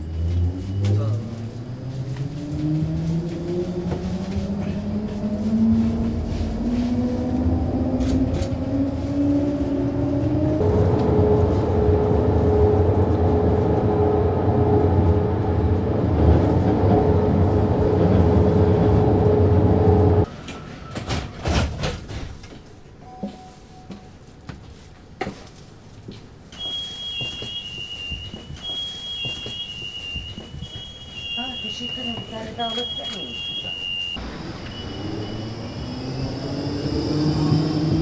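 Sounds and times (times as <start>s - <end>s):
tram motors whining: 0.0s - 21.4s, 26.6s - 38.0s
tram rumble: 0.0s - 23.0s, 23.6s - 38.0s.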